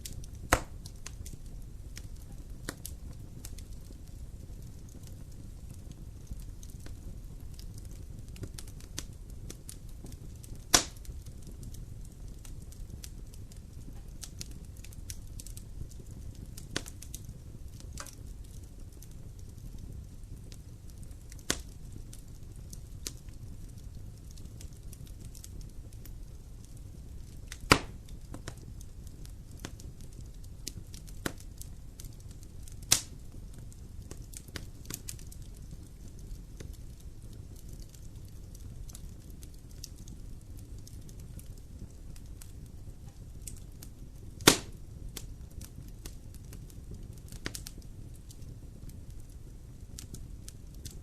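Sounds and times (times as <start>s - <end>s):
fire crackling and popping: 0.0s - 51.0s
fire rumbling in fireplace: 0.0s - 51.0s.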